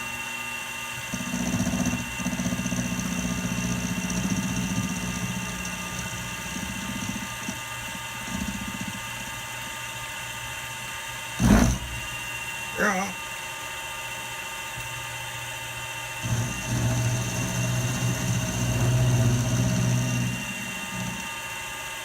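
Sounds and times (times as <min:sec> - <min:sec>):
milling machine motor whine: 0:00.0 - 0:22.0.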